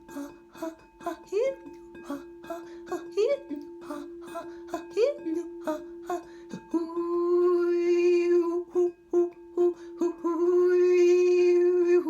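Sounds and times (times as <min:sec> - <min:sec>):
woman singing wordless tones: 0:00.0 - 0:12.0.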